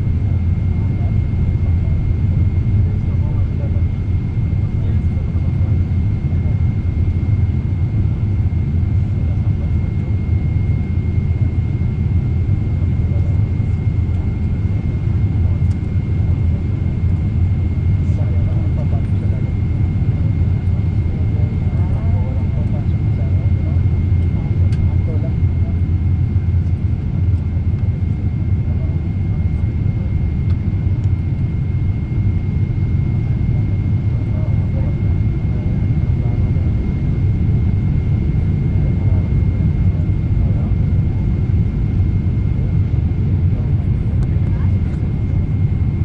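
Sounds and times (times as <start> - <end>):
aircraft cabin engine rumble: 0.0 - 46.0.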